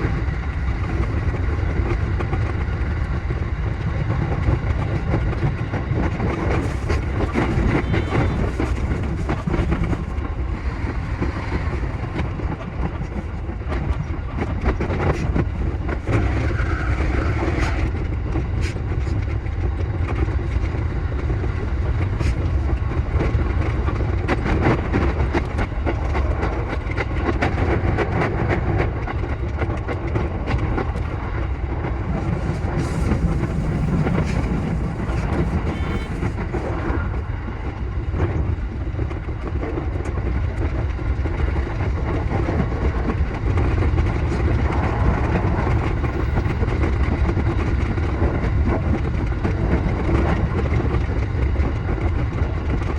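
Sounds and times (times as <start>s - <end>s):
electric train rumbling: 0.0s - 52.9s.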